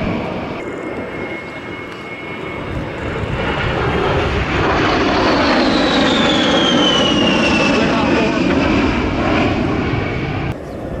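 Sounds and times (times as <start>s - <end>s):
jet aircraft passing: 0.0s - 11.0s.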